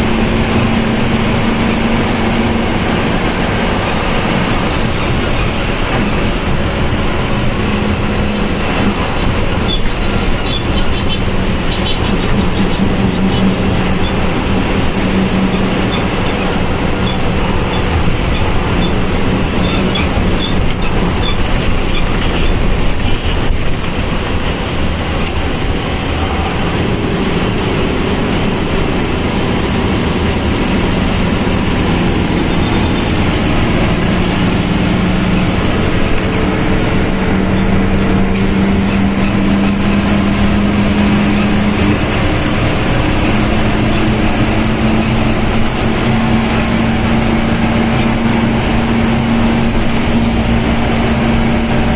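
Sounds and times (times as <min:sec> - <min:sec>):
bus engine running: 0:00.0 - 0:51.9.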